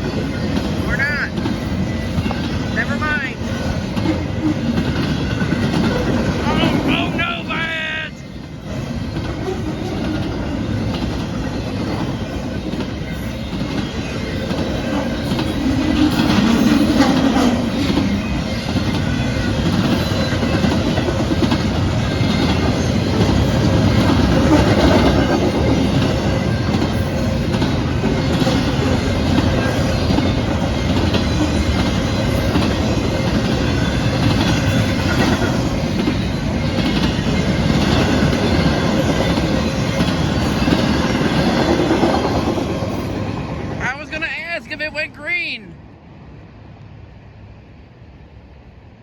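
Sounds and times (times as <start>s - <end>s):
train wheels rumbling on rails: 0.0s - 45.2s.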